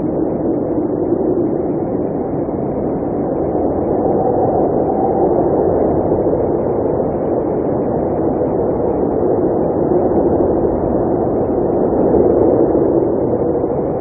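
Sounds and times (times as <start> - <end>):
blizzard wind rushing: 0.0 - 14.0.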